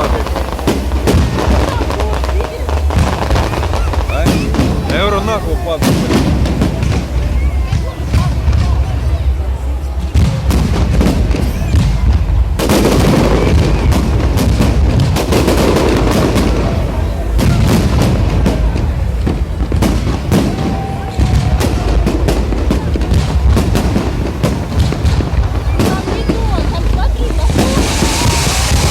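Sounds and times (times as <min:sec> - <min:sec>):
dense fireworks crackling: 0:00.0 - 0:28.9
fireworks booms and cracks: 0:00.0 - 0:28.9.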